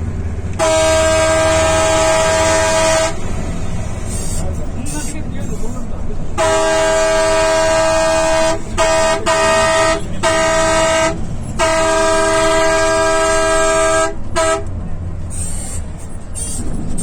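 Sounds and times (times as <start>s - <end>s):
low engine rumble: 0.0s - 17.0s
multi-tone bus horn: 0.3s - 5.2s, 6.3s - 15.7s.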